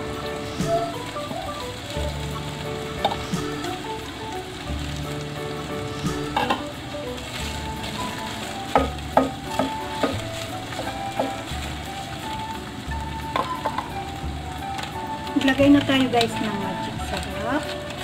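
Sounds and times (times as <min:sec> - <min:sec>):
food sizzling in a hot pan: 0:00.0 - 0:18.0.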